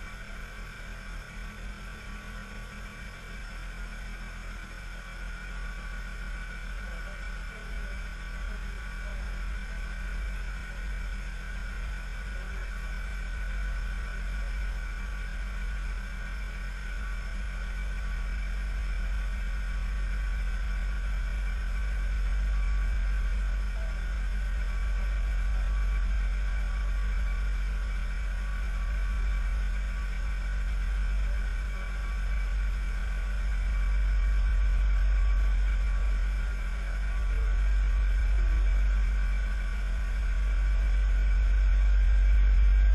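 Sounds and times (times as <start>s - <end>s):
engine running with low hum: 0.0s - 42.9s.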